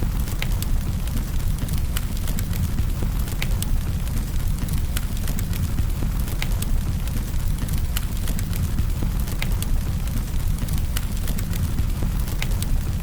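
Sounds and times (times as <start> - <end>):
campfire burning: 0.0 - 13.0.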